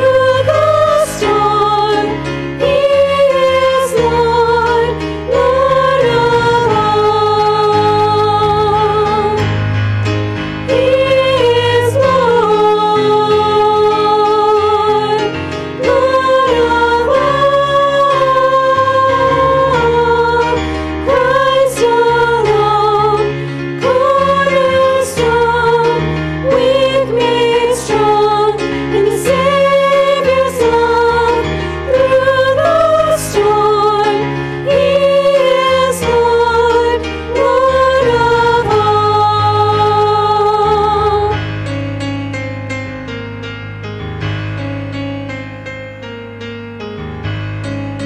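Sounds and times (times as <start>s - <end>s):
women singing together: 0.0s - 9.4s, 10.7s - 41.4s
keyboard sustained chords: 0.0s - 48.0s.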